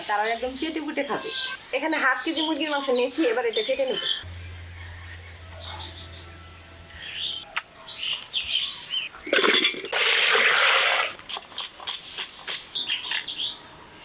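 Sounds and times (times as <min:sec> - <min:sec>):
birds chirping: 0:00.0 - 0:10.2, 0:12.0 - 0:13.7.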